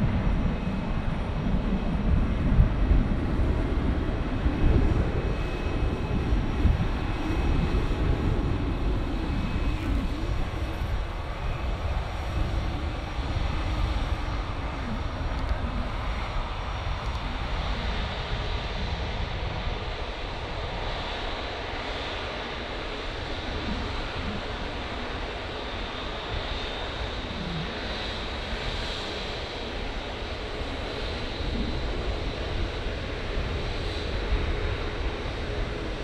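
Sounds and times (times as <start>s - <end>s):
jet airliner taxiing: 0.0s - 36.0s.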